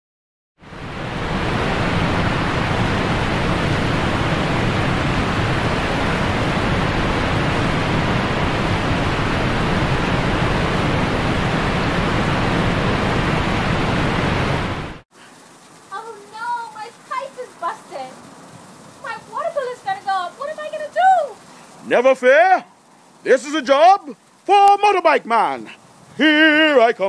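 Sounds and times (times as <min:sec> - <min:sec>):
water gushing from a pipe: 0:00.6 - 0:14.0, 0:15.1 - 0:27.0.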